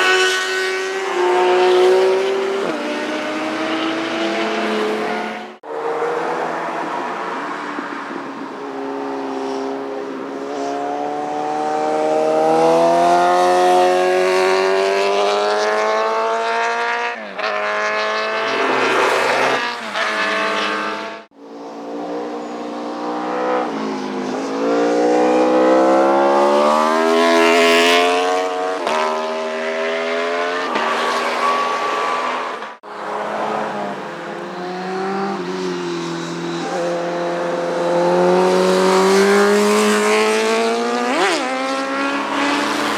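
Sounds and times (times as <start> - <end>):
motorcycle engines revving and passing: 0.0 - 42.9.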